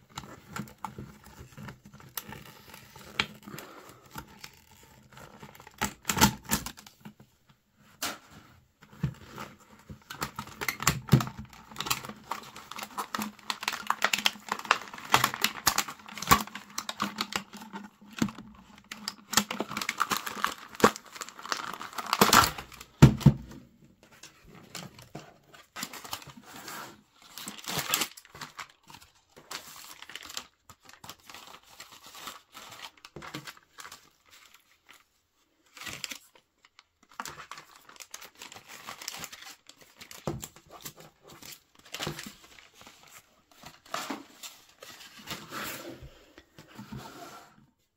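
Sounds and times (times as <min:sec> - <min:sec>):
plastic packaging crinkling: 0:00.2 - 0:06.9, 0:09.3 - 0:23.3, 0:24.6 - 0:45.5.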